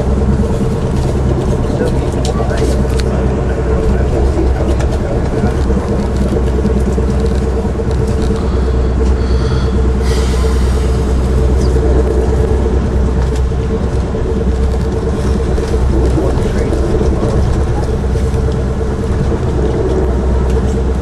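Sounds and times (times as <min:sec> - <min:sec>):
constant hum: 0:00.0 - 0:21.0
train wheels rumbling on rail: 0:00.0 - 0:21.0.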